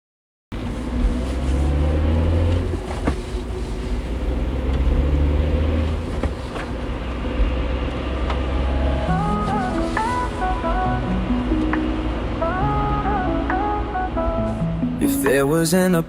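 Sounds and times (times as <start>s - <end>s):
car engine low rumble: 0.5s - 15.8s.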